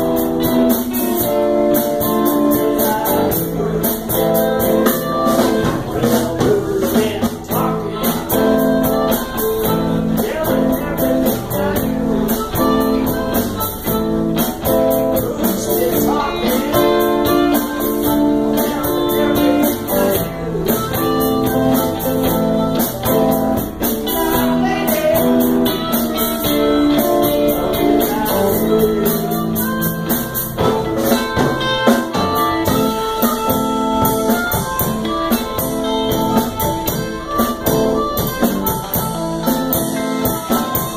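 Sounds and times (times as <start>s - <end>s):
blues band playing: 0.0s - 40.9s
drum kit: 0.0s - 40.9s
electric guitars: 0.0s - 40.9s
person singing: 0.0s - 40.9s.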